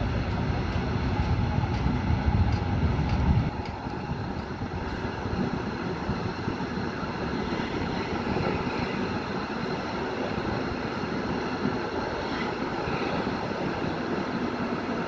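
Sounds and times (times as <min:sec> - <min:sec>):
train rolling noise: 0:00.0 - 0:15.0.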